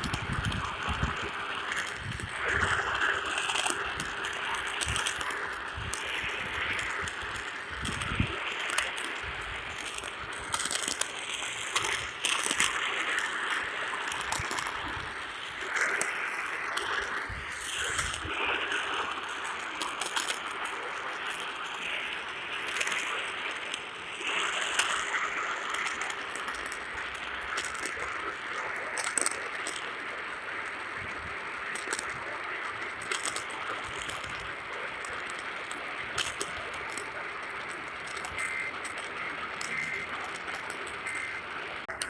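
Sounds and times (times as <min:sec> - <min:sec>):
crackles and clicks: 0:00.0 - 0:42.0
radio static hiss: 0:00.0 - 0:42.0.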